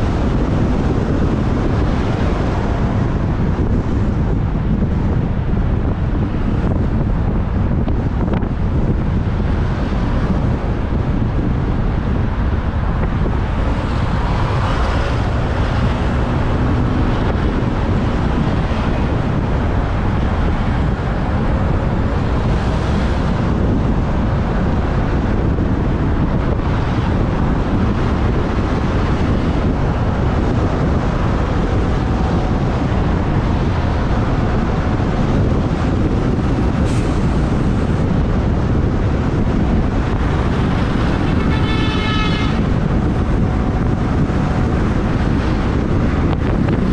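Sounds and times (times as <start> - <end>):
surrounding traffic: 0.0 - 46.9
wind buffeting microphone: 0.0 - 46.9.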